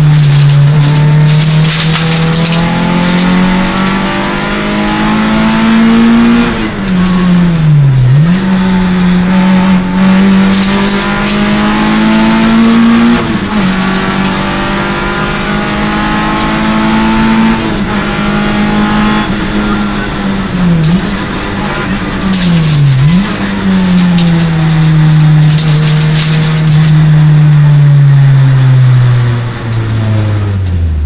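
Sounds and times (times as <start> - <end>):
car engine revving: 0.0 - 31.0
tyre and road noise: 0.0 - 31.0.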